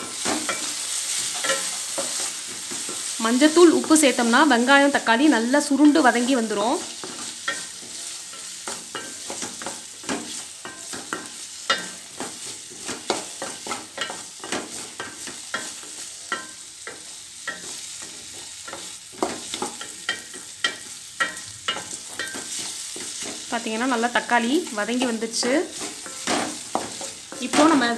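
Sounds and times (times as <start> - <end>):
vegetables sizzling in oil: 0.0 - 27.9
wooden spatula scraping a pan: 5.4 - 27.9.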